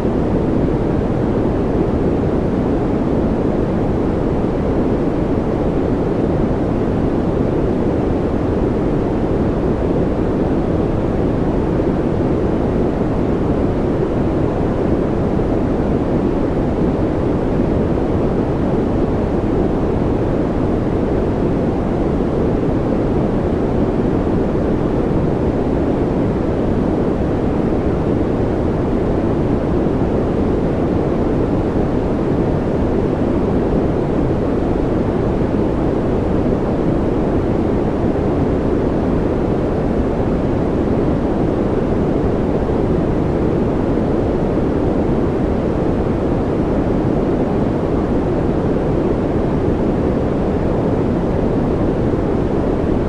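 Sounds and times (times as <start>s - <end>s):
deep white noise: 0.0s - 53.0s.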